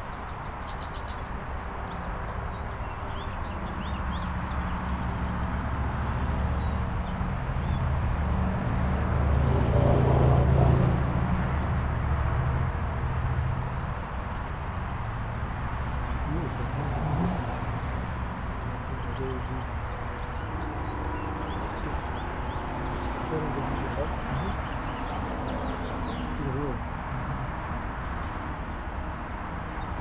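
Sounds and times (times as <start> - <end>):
vehicle engine passing: 3.7 - 13.7, 14.8 - 30.0.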